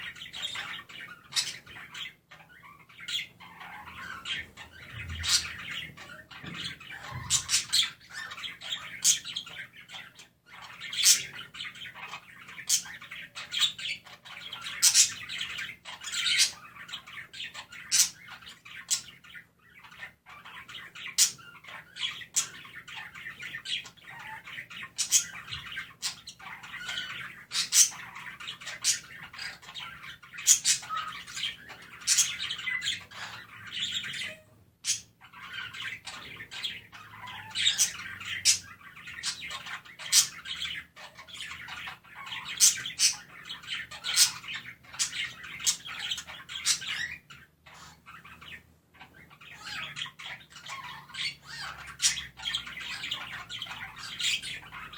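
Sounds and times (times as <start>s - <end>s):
budgies chirping and warbling: 0.0s - 54.9s.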